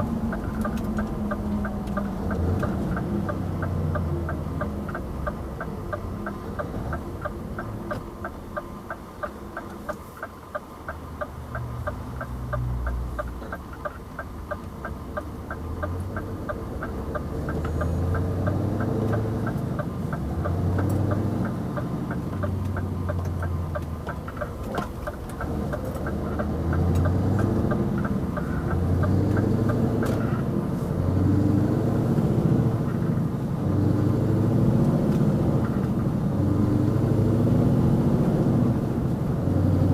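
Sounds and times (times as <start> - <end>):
diesel engine revving: 0.0 - 9.5, 10.8 - 39.9
turn indicator ticking: 0.0 - 39.9.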